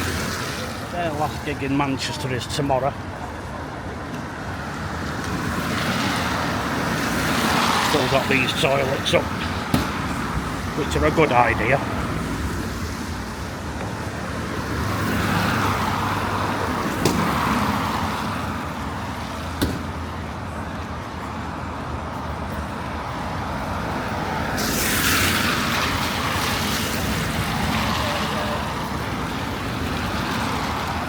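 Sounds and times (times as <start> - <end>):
cars passing with tyre hiss: 0.0 - 31.0.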